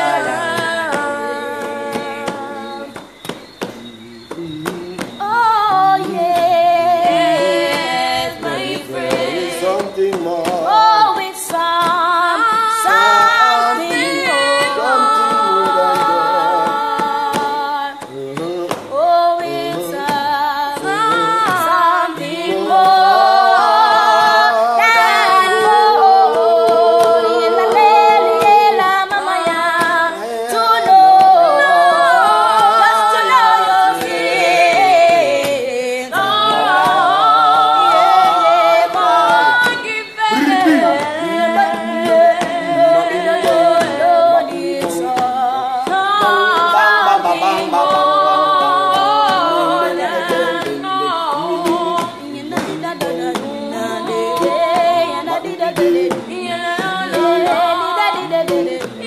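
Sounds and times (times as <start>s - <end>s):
group singing unaccompanied: 0.0s - 59.0s.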